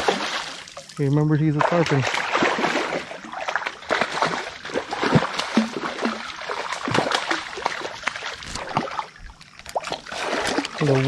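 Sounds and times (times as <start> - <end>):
fish splashing at the surface: 0.0 - 11.0.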